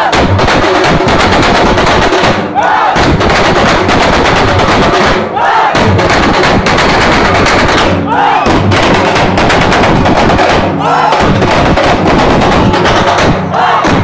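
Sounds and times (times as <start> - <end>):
rapid percussive strikes: 0.0 - 14.0.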